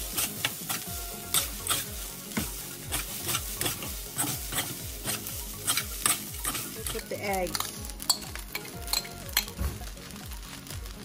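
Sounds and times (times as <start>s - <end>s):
metal spatula scraping wok: 0.0s - 9.6s
rice sizzling: 0.0s - 11.0s.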